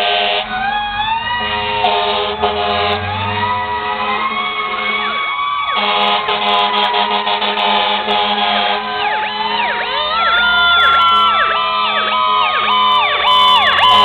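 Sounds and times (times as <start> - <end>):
fire truck sirens wailing: 0.0 - 14.0.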